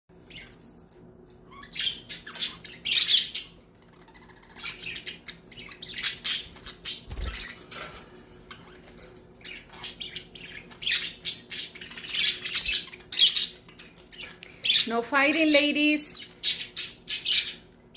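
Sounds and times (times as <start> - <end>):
budgerigars squawking and chirping: 1.5 - 7.8, 8.6 - 17.7.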